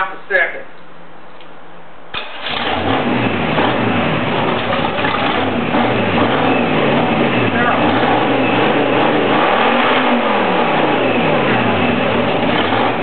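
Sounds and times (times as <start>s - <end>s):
boat engine starting: 2.1s - 13.0s
engine revving up and down: 2.2s - 13.0s.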